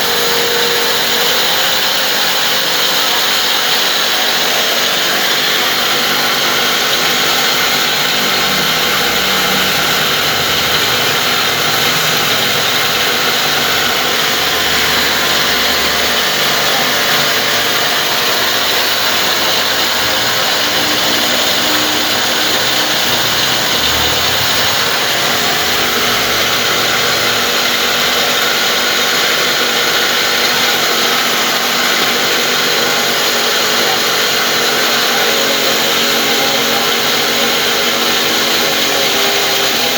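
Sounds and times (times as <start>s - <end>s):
flour mill running: 0.0s - 39.9s.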